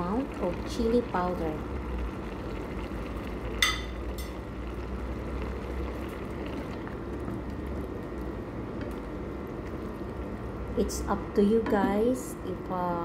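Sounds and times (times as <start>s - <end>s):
broth bubbling in a pan: 0.0s - 13.0s.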